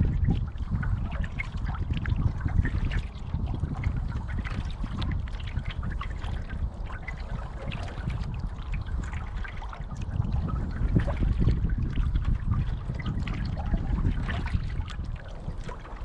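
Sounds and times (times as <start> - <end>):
low rumble: 0.0 - 16.0
water lapping against canoe: 0.0 - 16.0.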